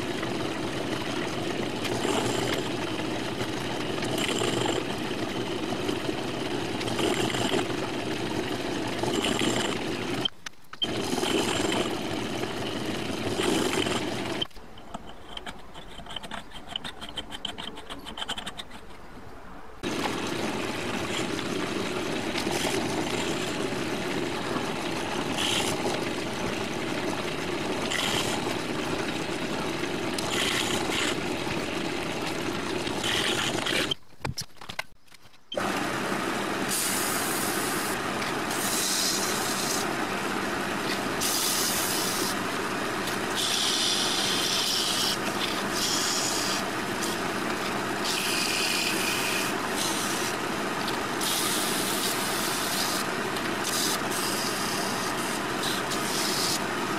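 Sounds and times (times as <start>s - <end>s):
metal lathe running: 0.0s - 14.5s, 19.8s - 34.0s, 35.6s - 56.9s
tool scraping spinning workpiece: 0.0s - 19.1s, 19.8s - 34.0s, 43.0s - 56.7s.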